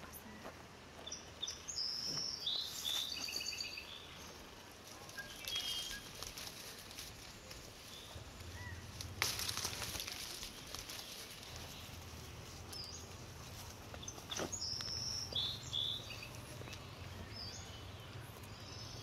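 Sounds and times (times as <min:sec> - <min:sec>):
small birds chirping: 0:00.0 - 0:19.0
leaves rustling and crackling: 0:01.0 - 0:19.0.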